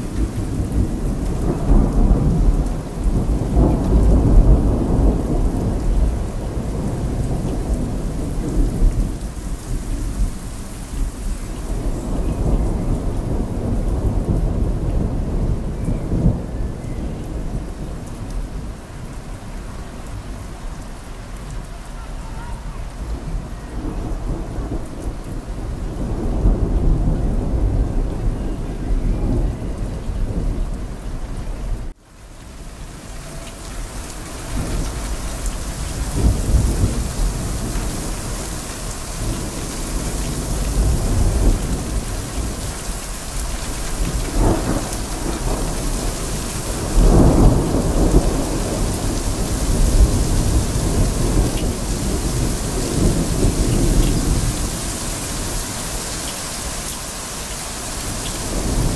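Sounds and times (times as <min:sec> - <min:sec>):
thunder rumbling: 0:00.0 - 0:32.0, 0:32.6 - 0:58.9
heavy rain: 0:00.0 - 0:58.9.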